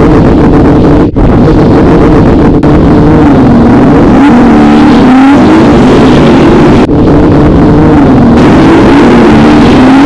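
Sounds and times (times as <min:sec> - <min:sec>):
engines revving loudly: 0:00.0 - 0:10.0.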